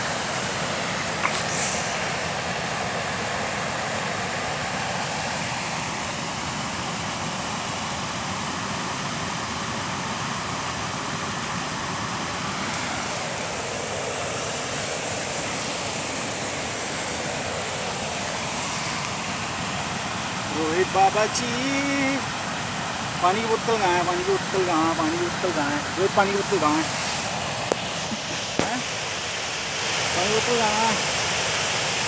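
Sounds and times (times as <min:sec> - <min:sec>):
rushing water: 0:00.0 - 0:32.0.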